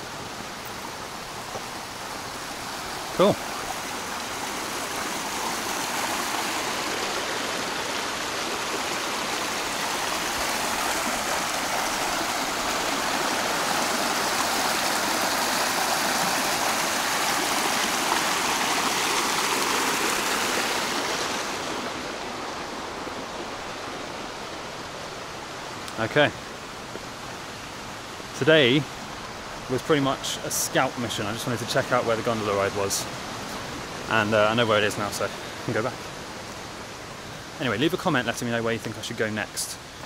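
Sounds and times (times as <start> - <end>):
stream rushing over stones: 0.0 - 40.0.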